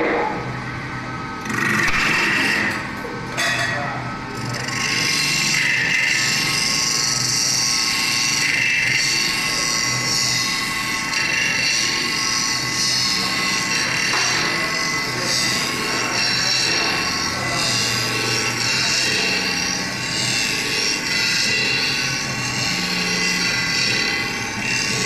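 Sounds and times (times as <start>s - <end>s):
metal forming machine whine: 0.0s - 25.0s.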